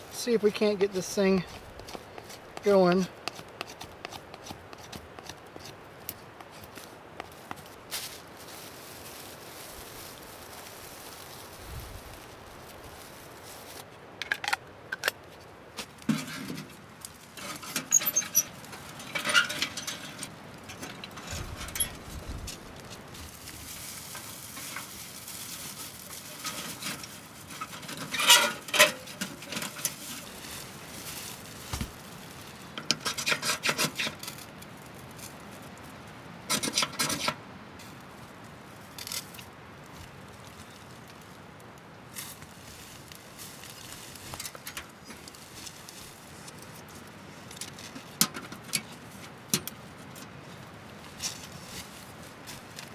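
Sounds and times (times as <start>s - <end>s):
scraping and rustling of tinder: 0.0s - 14.0s, 15.2s - 36.0s, 36.6s - 48.2s, 48.8s - 52.9s.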